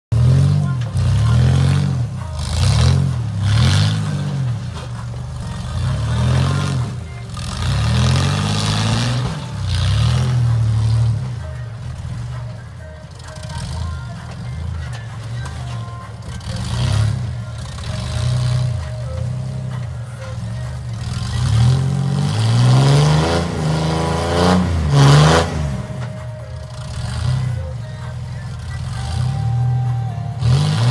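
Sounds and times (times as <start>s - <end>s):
buggy engine revving: 0.0s - 30.9s.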